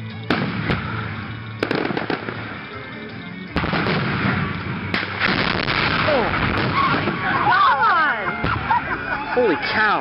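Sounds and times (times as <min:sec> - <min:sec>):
fireworks bursting: 0:00.2 - 0:08.8.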